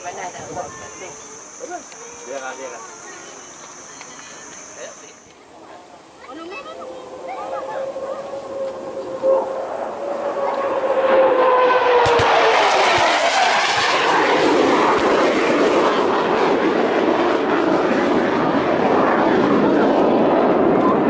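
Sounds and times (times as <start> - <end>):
jet aircraft roaring past: 0.0 - 21.0.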